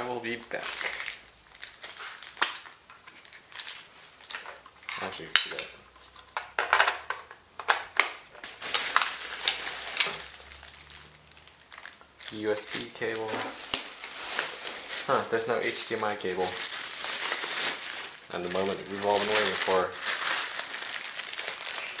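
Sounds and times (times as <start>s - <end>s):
plastic packaging crinkling: 0.0s - 4.7s, 8.0s - 22.0s.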